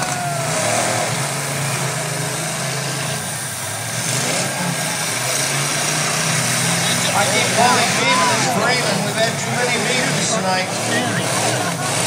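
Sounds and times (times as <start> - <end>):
truck engines droning: 0.0 - 12.0.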